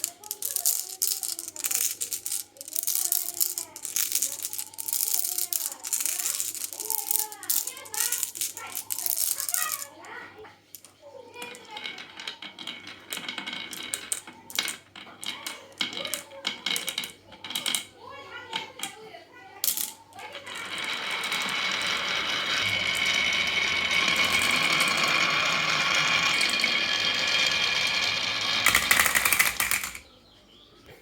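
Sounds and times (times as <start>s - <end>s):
marbles clacking down wooden run: 0.0s - 19.0s, 19.6s - 30.1s.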